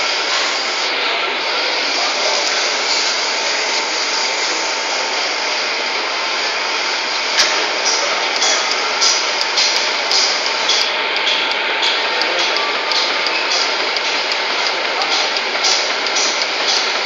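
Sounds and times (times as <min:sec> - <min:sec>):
machine whirring: 0:00.0 - 0:17.0.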